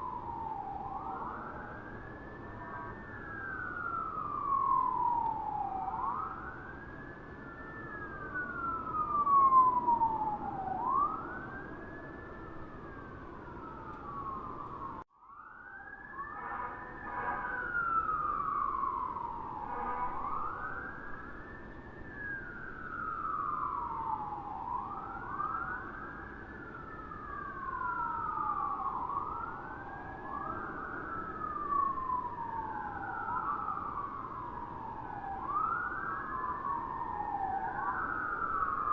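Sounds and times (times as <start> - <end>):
distant fire truck sirens wailing: 0.0 - 38.9.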